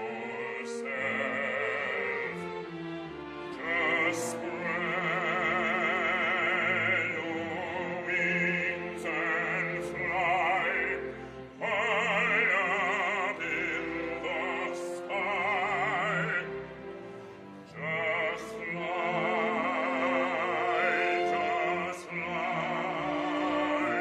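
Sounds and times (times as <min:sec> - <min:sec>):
operatic singing with vibrato: 0:00.0 - 0:24.0.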